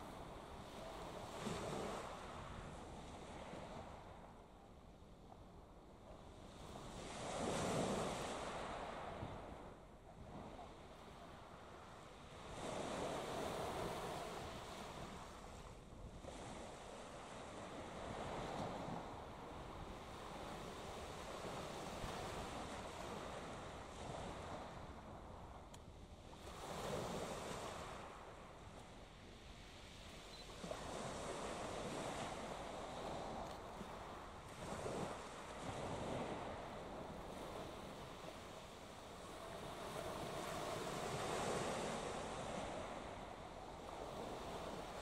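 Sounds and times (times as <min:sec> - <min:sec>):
small waves washing ashore: 0:00.0 - 0:04.3, 0:06.2 - 0:45.0
wind on microphone: 0:00.0 - 0:04.7, 0:05.4 - 0:45.0.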